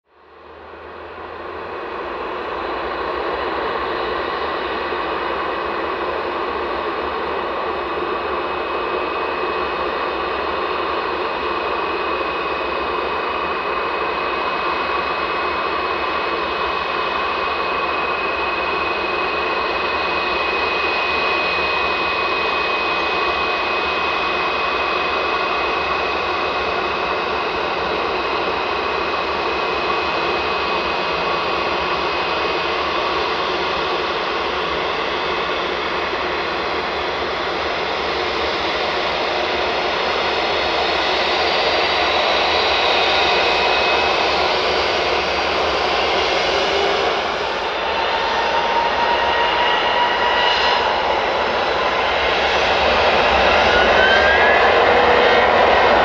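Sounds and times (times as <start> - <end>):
jet engines idling: 0.2 - 56.0.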